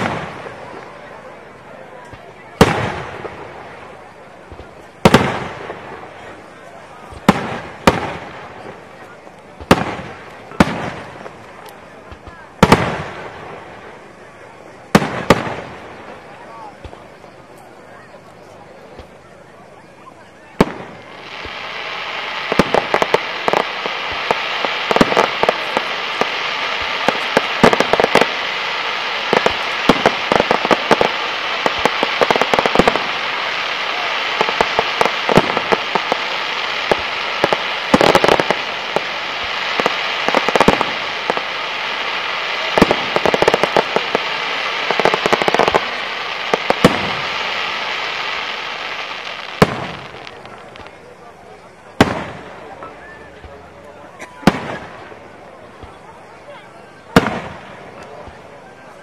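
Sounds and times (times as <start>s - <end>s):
fireworks crackling and popping: 0.0s - 59.0s.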